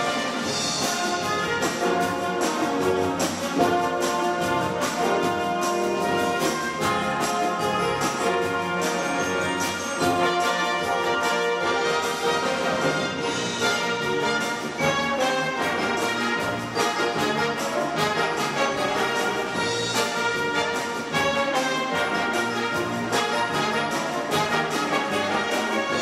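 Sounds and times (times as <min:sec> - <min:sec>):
brass instruments playing: 0:00.0 - 0:26.0
percussion beat: 0:00.0 - 0:26.0.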